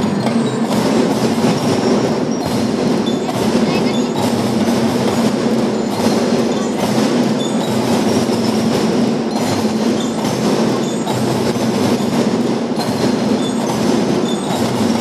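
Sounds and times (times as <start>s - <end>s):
marching drum band playing: 0.0s - 15.0s.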